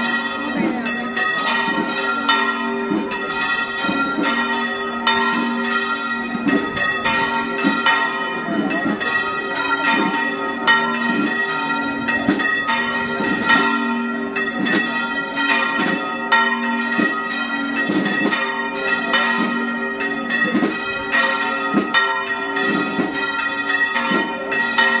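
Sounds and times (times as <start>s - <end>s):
church bells ringing a peal: 0.0s - 25.0s.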